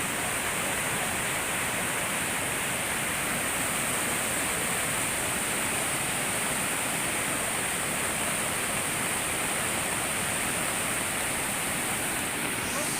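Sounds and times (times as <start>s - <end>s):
floodwater rushing: 0.0s - 12.9s.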